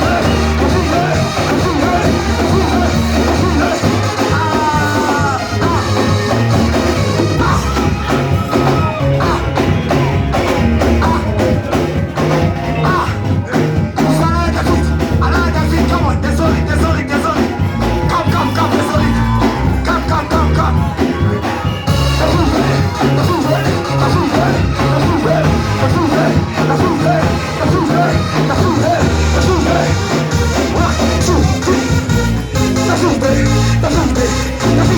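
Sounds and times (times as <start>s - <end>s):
live worship band music: 0.0s - 34.9s.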